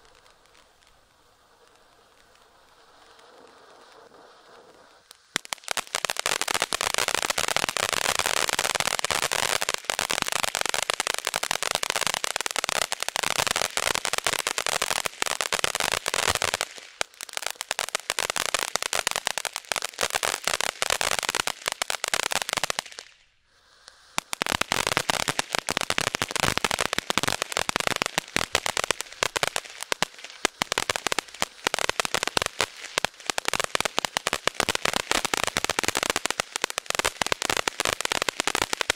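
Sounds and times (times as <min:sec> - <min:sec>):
firework fountain crackling: 0:00.0 - 0:38.9.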